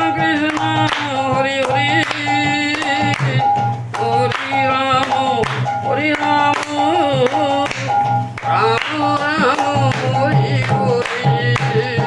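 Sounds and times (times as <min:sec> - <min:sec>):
group singing: 0:00.0 - 0:12.0
sharp percussion strikes: 0:00.0 - 0:12.0.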